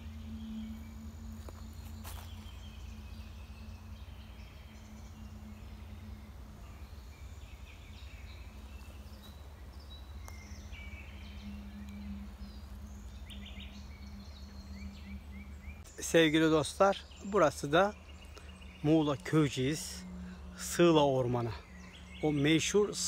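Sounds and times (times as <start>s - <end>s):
birds chirping: 0.0s - 23.0s
faint steady hum: 0.0s - 23.0s
light wind rumble: 0.0s - 23.0s.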